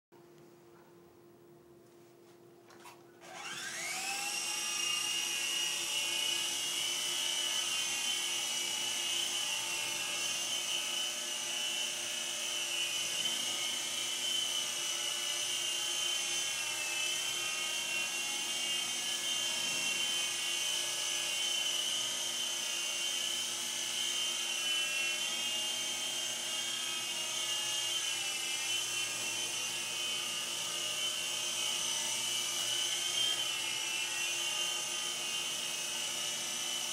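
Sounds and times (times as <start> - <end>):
rc helicopter motor whine: 3.2 - 36.9.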